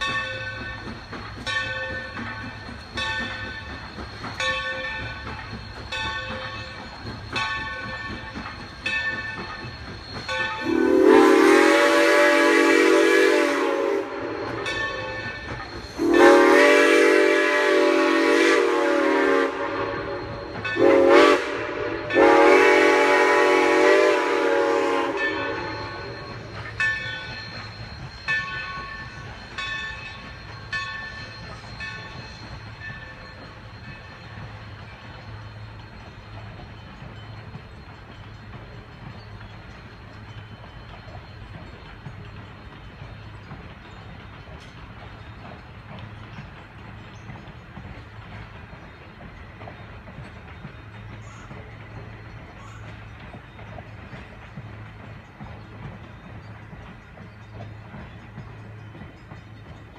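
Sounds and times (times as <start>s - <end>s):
locomotive bell ringing: 0.0s - 59.9s
low rumble of passing train: 0.0s - 59.9s
steam locomotive chime whistle: 0.0s - 59.9s.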